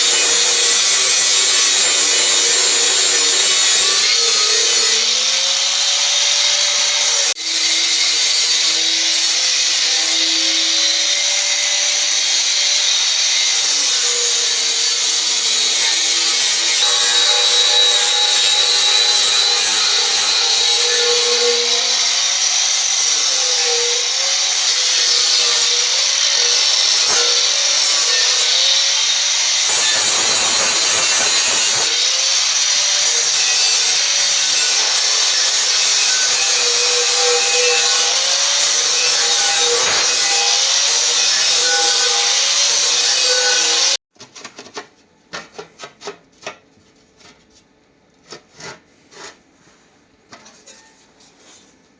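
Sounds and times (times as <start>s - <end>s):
power tool grinding: 0.0s - 44.0s.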